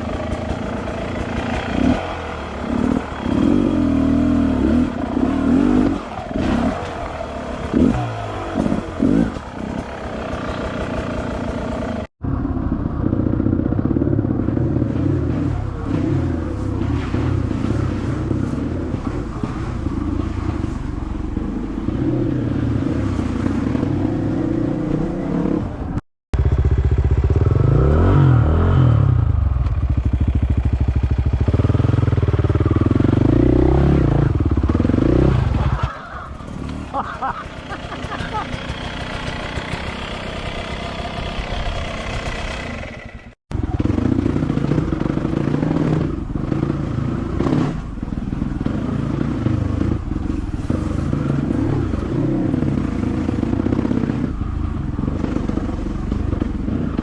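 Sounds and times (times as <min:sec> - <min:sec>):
dirt bike engine revving: 0:00.0 - 0:12.1, 0:13.3 - 0:57.0.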